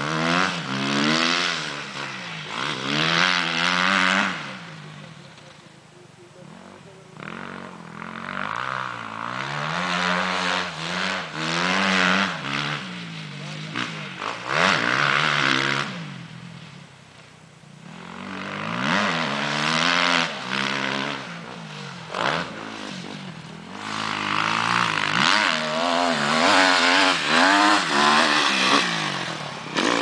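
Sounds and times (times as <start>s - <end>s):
dirt bike engine revving: 0.0s - 16.9s, 17.7s - 30.0s.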